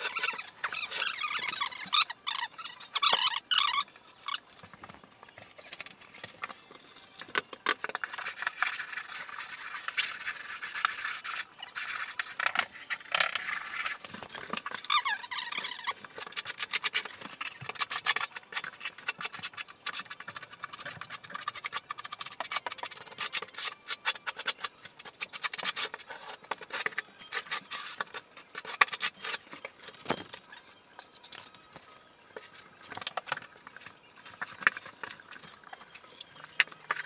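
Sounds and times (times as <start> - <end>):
plastic membrane rubbing and scraping: 0.0 - 37.0.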